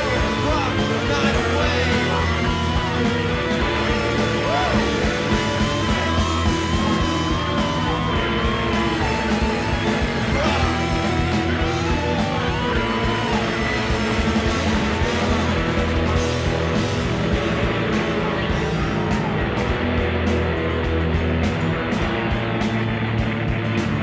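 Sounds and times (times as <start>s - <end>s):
wavering held lead notes: 0.0s - 23.1s
rock band playing: 0.0s - 24.0s.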